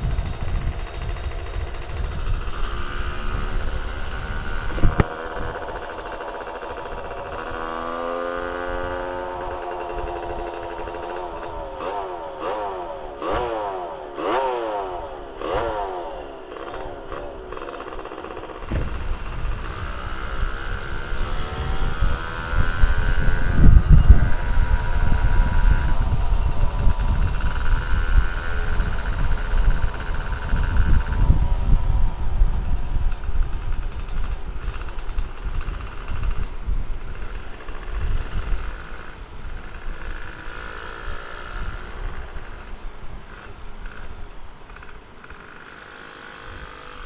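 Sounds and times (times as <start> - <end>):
wind rumble on microphone: 0.0 - 12.6, 18.6 - 45.0
two-stroke moped engine revving: 0.0 - 47.0.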